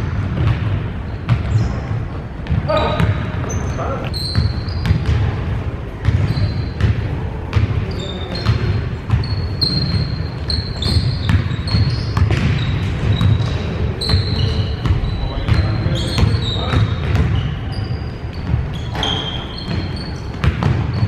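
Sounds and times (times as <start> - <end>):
basketball bouncing: 0.0 - 21.0
low rumble of large gym: 0.0 - 21.0
sneakers squeaking: 0.0 - 21.0.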